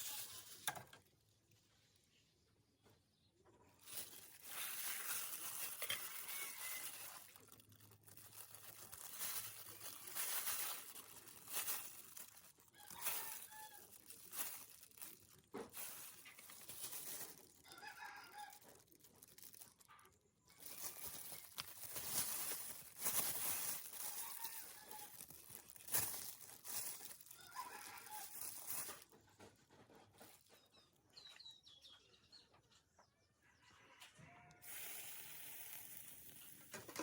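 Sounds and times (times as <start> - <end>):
rustling and crinkling: 0.0 - 31.5, 34.6 - 37.0.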